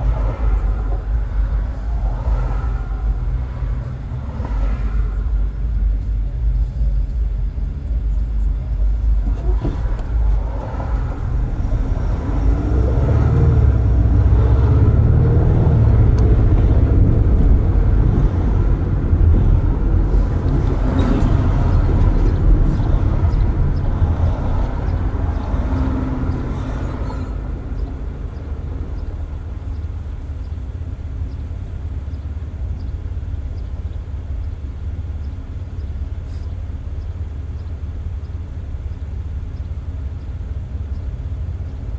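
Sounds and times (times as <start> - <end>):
road and tyre rumble: 0.0 - 41.9
traffic noise: 0.0 - 41.9.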